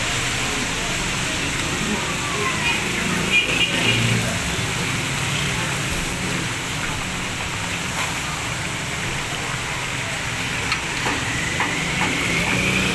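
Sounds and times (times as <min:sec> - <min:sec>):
fish sizzling in hot oil: 0:00.0 - 0:12.9.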